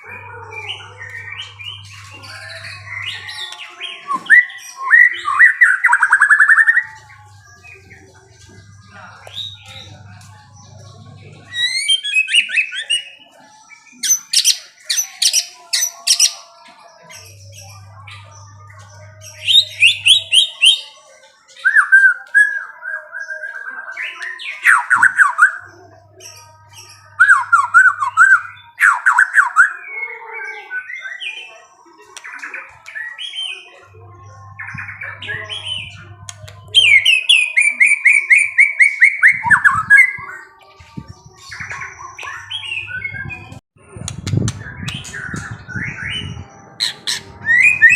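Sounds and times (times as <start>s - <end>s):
songbird singing chirps and trills: 0.0s - 47.9s.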